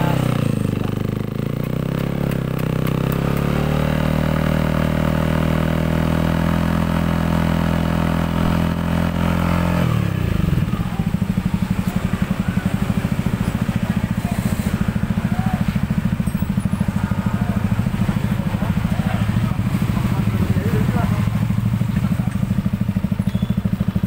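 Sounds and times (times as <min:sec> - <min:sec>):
scooter engine revving and idling: 0:00.0 - 0:24.0.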